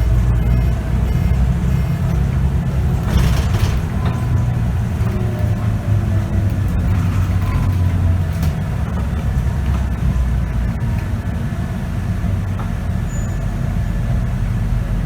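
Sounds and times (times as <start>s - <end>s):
bus diesel engine droning: 0.0s - 15.0s
road rumble: 0.0s - 15.0s.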